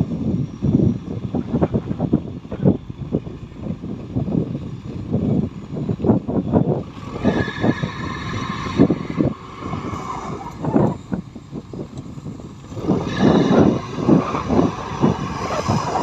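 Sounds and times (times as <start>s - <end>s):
heavy machinery engine running: 0.0s - 16.0s
high machine whine: 0.0s - 16.0s.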